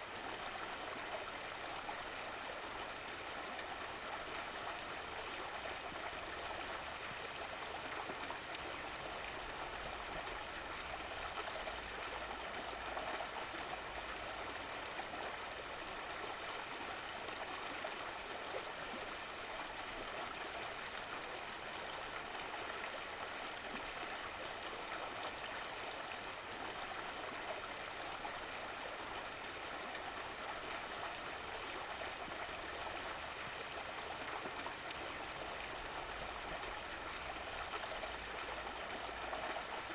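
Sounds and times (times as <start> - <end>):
stream of running water: 0.0 - 39.9.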